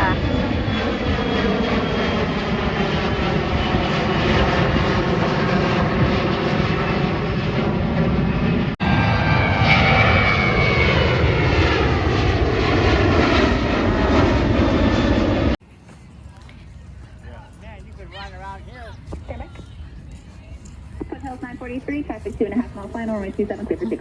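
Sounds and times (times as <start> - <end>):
airplane engines passing overhead: 0.0 - 24.0.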